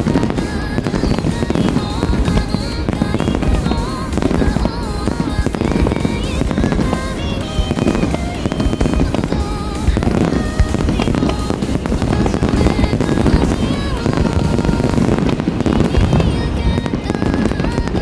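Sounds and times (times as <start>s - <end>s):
fireworks booming and cracking: 0.0s - 18.0s
melodic background music: 0.0s - 18.0s.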